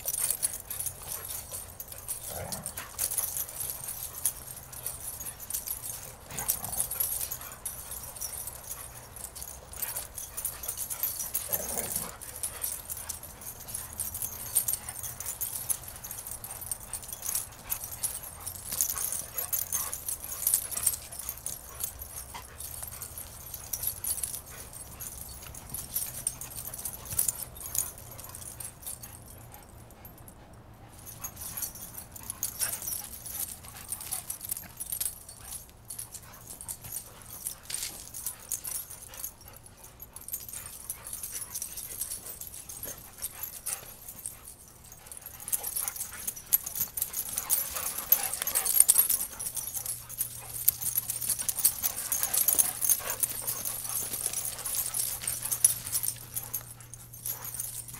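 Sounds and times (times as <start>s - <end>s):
dogs playing sounds: 0.0s - 57.9s.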